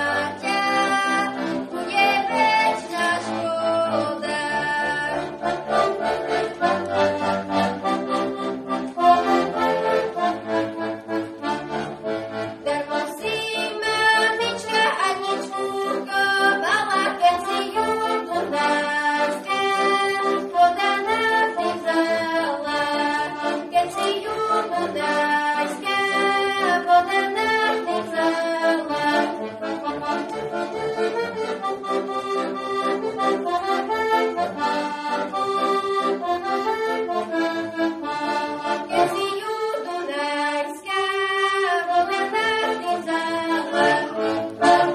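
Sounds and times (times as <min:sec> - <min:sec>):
accordion folk tune: 0:00.0 - 0:44.9.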